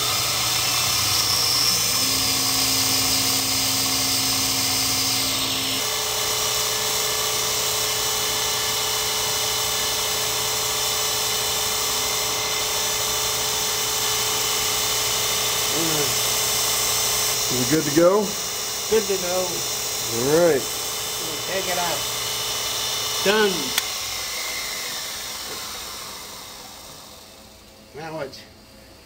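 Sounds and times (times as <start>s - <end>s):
grinding wheel hissing: 0.0s - 28.3s.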